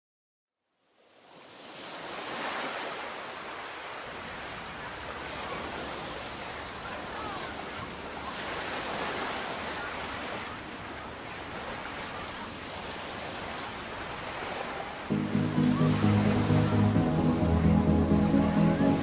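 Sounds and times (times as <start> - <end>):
surf washing in waves: 1.0 - 19.0.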